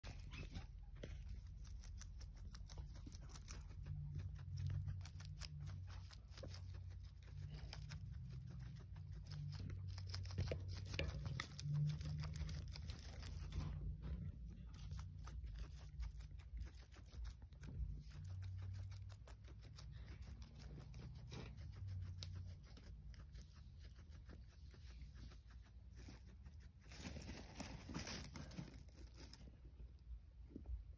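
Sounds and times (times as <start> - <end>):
guinea pig chewing lettuce: 0.0 - 30.7
faint low hum: 0.0 - 30.9.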